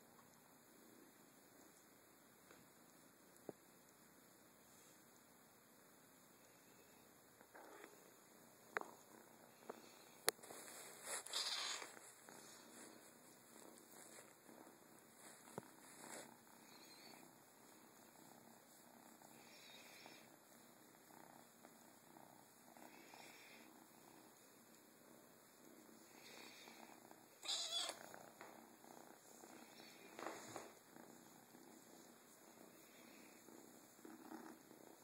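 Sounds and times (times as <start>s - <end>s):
kitten purring: 6.6s - 35.0s.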